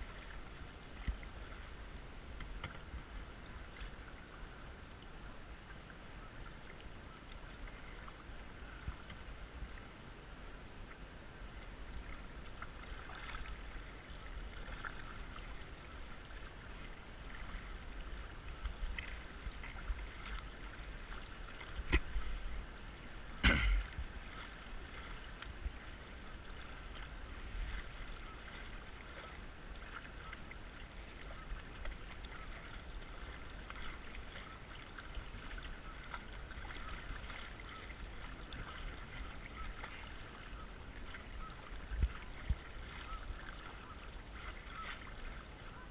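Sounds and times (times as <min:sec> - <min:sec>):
creek water flowing: 0:00.0 - 0:45.9
kayak paddle splashing: 0:00.0 - 0:45.9.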